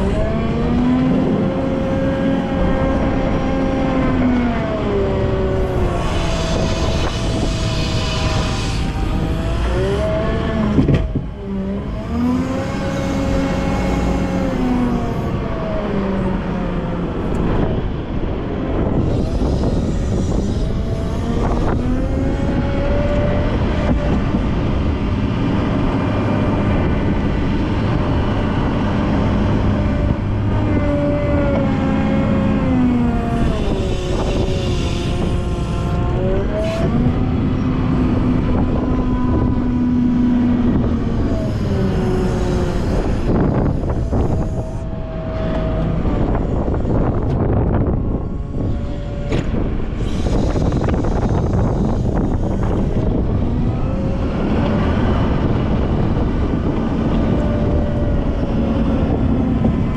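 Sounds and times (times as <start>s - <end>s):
wheel loader diesel engine: 0.0s - 59.9s.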